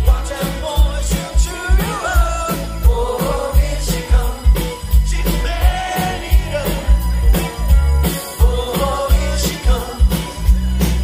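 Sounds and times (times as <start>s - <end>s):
man singing lead vocal: 0.0s - 11.0s
soft rock band playing: 0.0s - 11.0s
steady drum beat: 0.0s - 11.0s.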